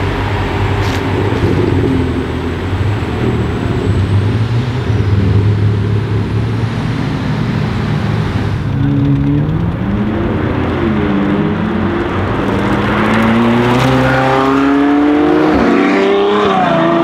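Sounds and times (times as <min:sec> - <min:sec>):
car engine accelerating: 0:00.0 - 0:17.0
cars driving by: 0:00.0 - 0:17.0.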